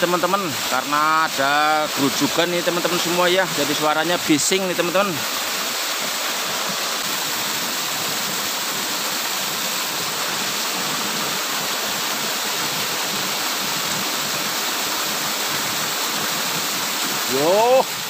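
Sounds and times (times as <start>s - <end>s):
water rushing from small cascade: 0.0s - 18.0s.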